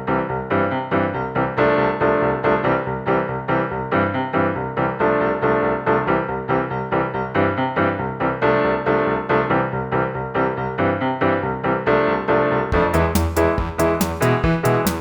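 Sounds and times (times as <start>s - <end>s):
piano-like keyboard melody: 0.0s - 15.0s.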